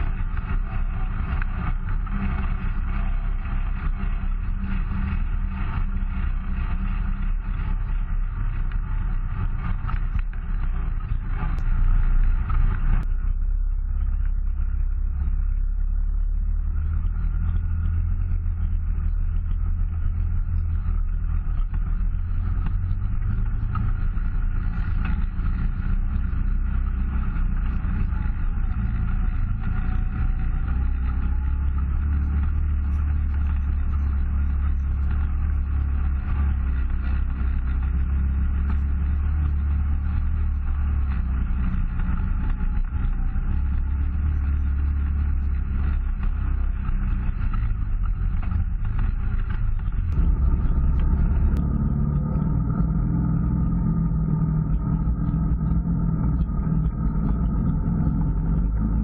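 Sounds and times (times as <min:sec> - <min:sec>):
rough road noise: 0:00.0 - 0:59.0
vehicle engine droning: 0:00.0 - 0:59.0.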